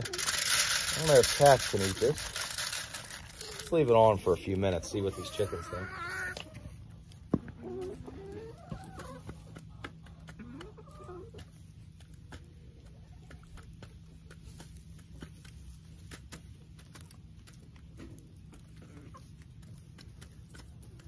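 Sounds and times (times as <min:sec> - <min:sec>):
hens clucking: 0:00.0 - 0:21.0
low steady hum: 0:00.0 - 0:21.0.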